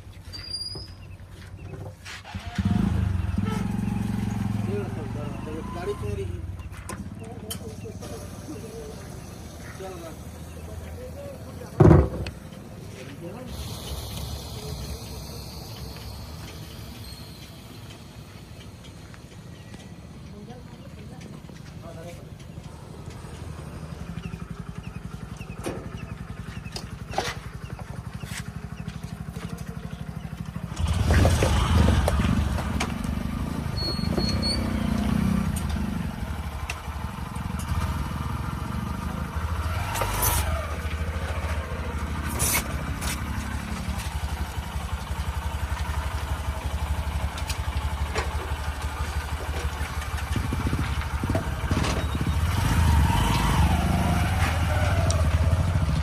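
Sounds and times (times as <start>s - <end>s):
tractor engine running: 1.3s - 56.0s.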